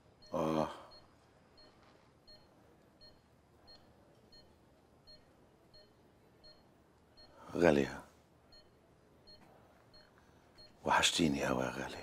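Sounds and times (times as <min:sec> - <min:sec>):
patient monitor beeping: 0:00.0 - 0:12.0.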